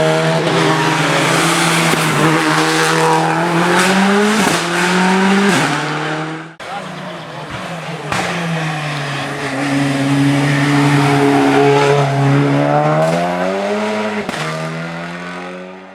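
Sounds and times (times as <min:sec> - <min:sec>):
race car engine at high revs: 0:00.0 - 0:15.9.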